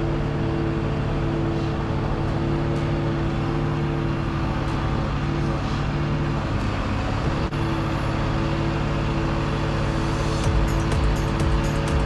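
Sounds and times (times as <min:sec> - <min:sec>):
lorry diesel engine running: 0:00.0 - 0:12.0.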